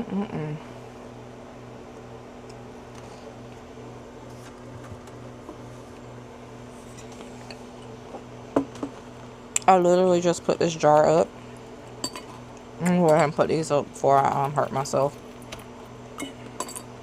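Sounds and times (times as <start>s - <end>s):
freeze dryer humming: 0.0s - 17.0s.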